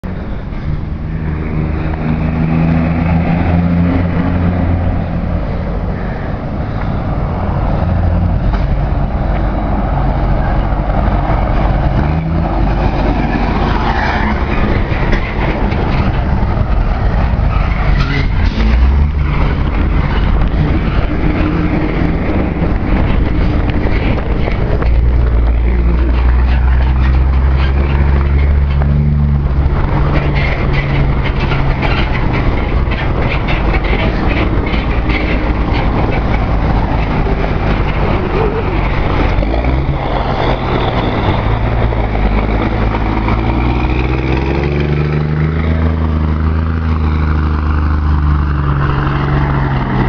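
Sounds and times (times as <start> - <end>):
car engine droning: 0.0 - 50.0.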